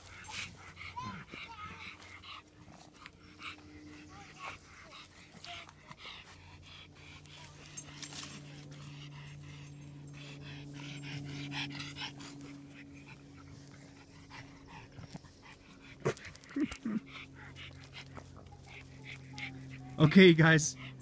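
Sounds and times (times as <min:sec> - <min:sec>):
dog panting: 0:00.0 - 0:21.0
steady low hum: 0:00.0 - 0:21.0.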